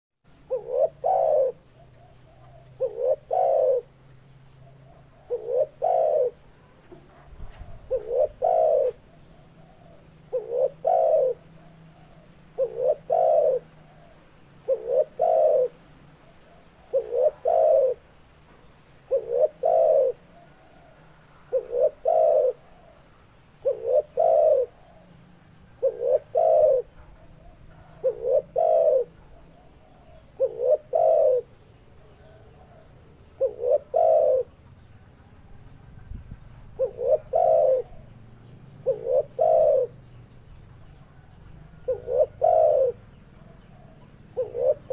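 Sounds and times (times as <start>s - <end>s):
dove cooing: 0.3s - 44.9s.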